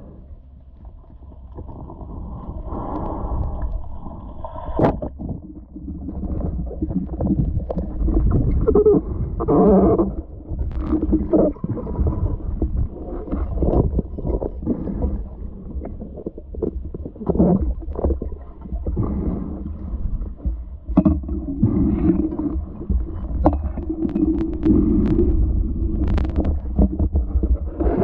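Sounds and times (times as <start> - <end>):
underwater gurgles and knocks: 0.0 - 28.0
underwater rumble of moving water: 0.0 - 28.0.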